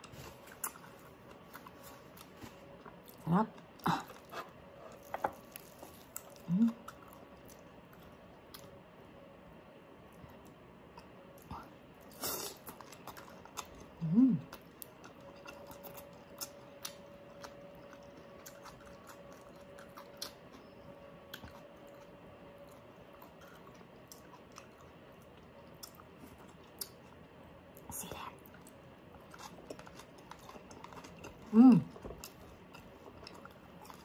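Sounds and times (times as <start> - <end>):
crispy food chewing crunches: 0.0 - 8.8, 10.1 - 34.0.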